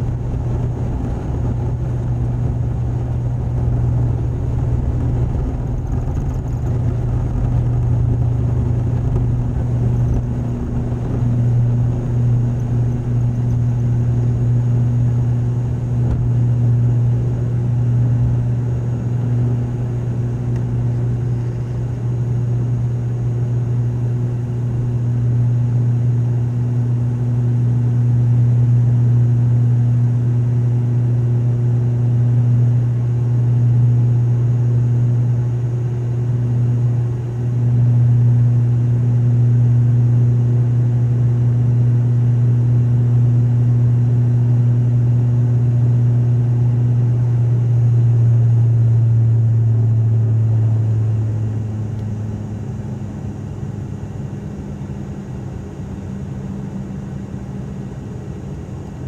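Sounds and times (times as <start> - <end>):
propeller drone in aircraft cabin: 0.0 - 59.0.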